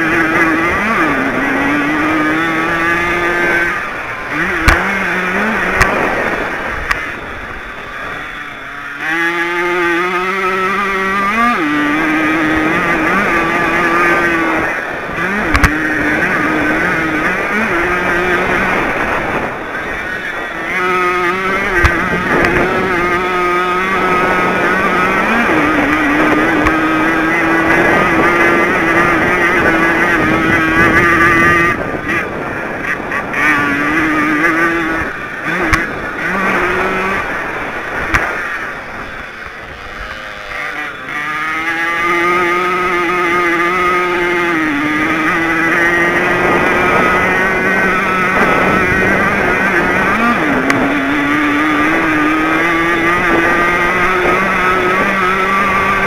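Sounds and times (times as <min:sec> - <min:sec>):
moped two-stroke engine revving: 0:00.0 - 0:56.0.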